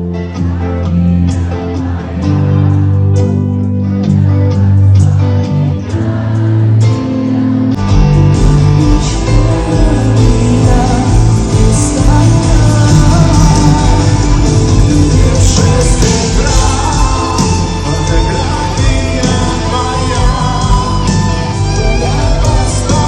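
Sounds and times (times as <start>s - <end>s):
guitar: 0.0s - 23.0s
live pop band: 0.0s - 23.0s
person singing: 1.4s - 23.0s.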